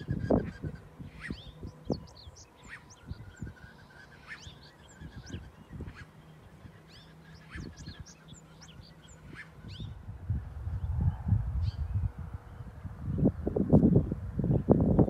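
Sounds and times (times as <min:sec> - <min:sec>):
birds chirping and peeping: 0:00.0 - 0:15.0
faint low rumble: 0:00.0 - 0:15.0.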